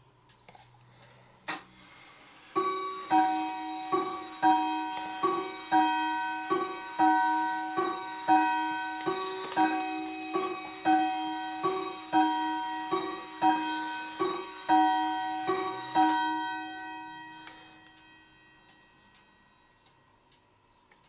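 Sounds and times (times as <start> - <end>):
gentle keyboard melody: 2.6 - 20.4.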